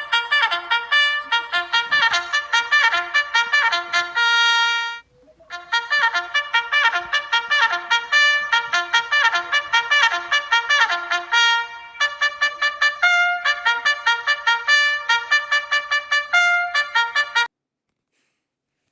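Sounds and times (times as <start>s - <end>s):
trumpet playing fast tune: 0.0s - 17.5s.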